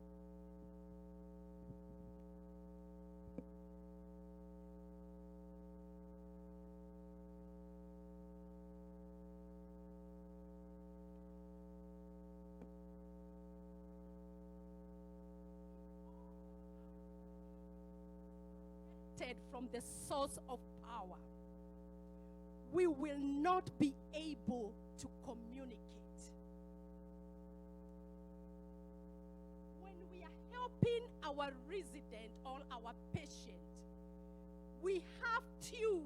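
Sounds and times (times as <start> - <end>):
electrical mains hum: 0.0 - 36.0.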